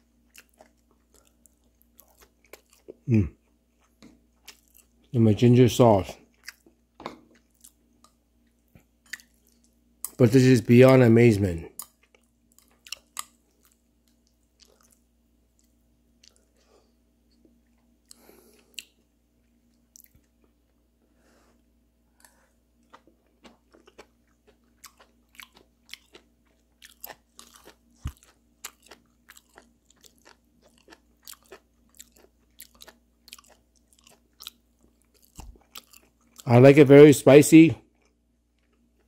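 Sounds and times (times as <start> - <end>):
person chewing with mouth clicks: 0.2 - 5.1, 6.2 - 10.2, 11.7 - 20.6, 22.1 - 36.5, 37.8 - 39.0.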